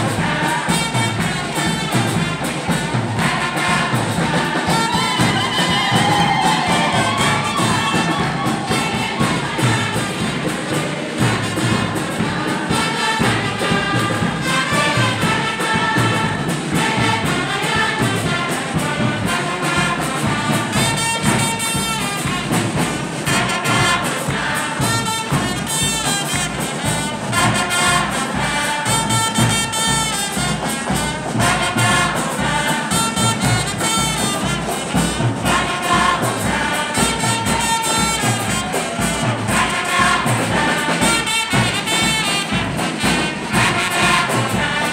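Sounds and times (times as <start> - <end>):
choir and congregation singing hymn: 0.0 - 44.9
steady drum beat: 0.0 - 44.9.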